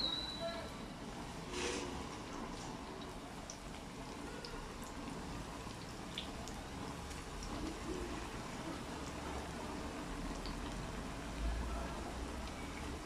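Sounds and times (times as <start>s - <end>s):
oil sizzling with crackling pops: 1.0s - 11.4s, 12.0s - 13.0s.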